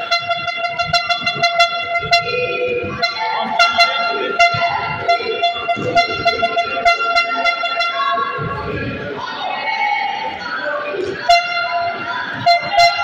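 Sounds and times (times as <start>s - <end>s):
steady horn-like tone: 0.0s - 8.8s, 11.2s - 13.0s.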